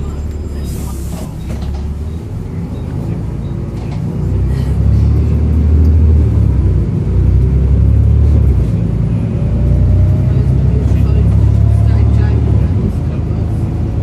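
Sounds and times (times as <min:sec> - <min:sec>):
bus diesel engine rumbling: 0:00.0 - 0:14.0.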